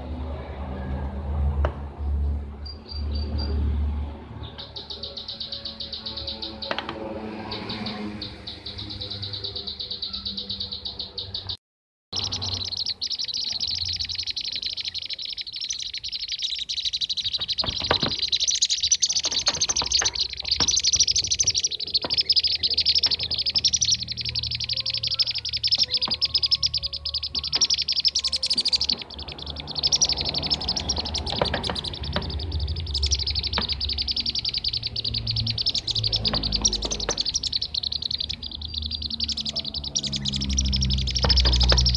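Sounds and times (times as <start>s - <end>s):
bird chorus of high chirps: 2.5s - 11.6s, 12.2s - 41.9s.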